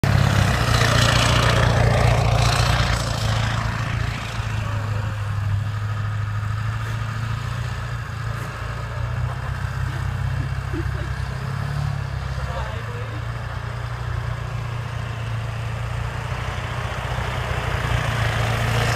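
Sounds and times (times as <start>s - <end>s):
diesel truck engine: 0.0s - 18.9s.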